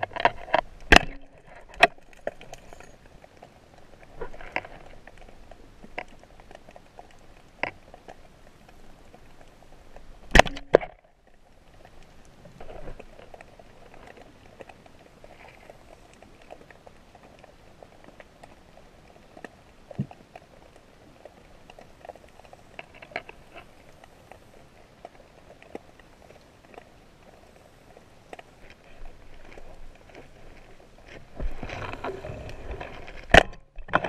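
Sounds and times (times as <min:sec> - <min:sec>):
underwater clicks and crackles: 0:00.0 - 0:34.0.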